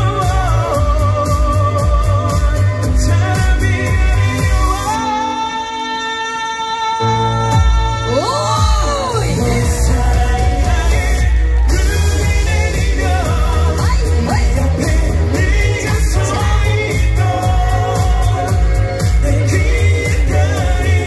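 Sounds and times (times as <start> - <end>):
man singing into microphone: 0.0 - 21.0
pop backing track with bass beat: 0.0 - 21.0.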